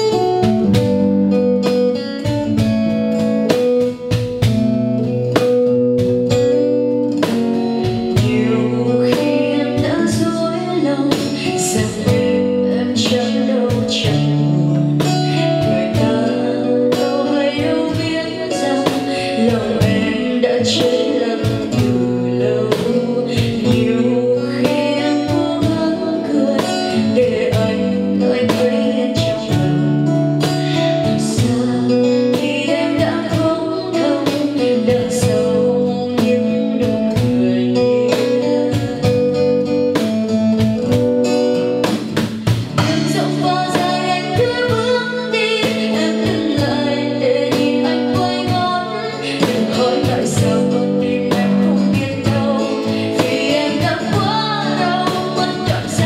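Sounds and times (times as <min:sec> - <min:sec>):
cajon beats: 0:00.0 - 0:10.4, 0:11.1 - 0:56.0
strummed acoustic guitar: 0:00.0 - 0:56.0
woman singing pop ballad: 0:00.0 - 0:56.0.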